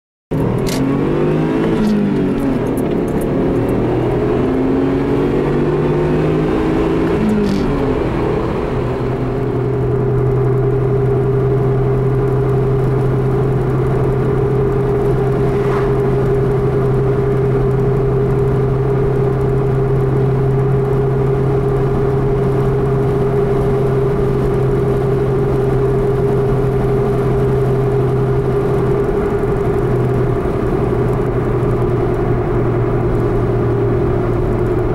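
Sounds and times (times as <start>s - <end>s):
car engine drone in cabin: 0.3s - 34.9s.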